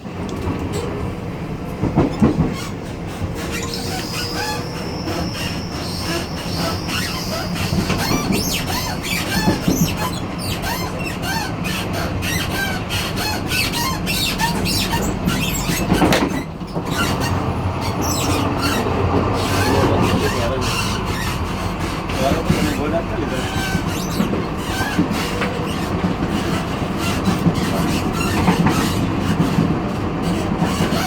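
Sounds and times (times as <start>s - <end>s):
train wheels rumbling on rail: 0.0s - 31.0s
squeaks and rattles of car connection: 1.8s - 31.0s.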